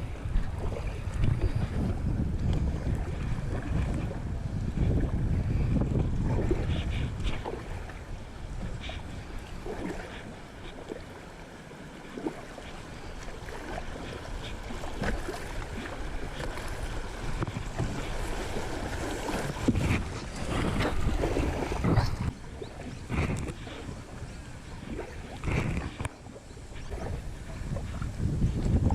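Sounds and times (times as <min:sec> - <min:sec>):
water splashing around kayak: 0:00.0 - 0:28.9.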